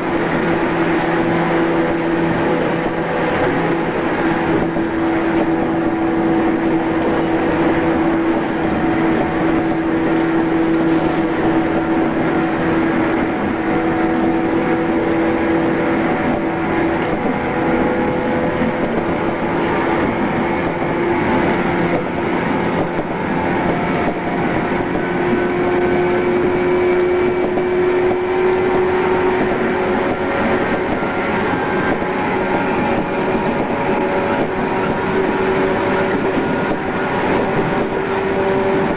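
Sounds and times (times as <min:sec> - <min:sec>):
train motor and gear hum: 0:00.0 - 0:38.9
train rolling noise: 0:00.0 - 0:38.9.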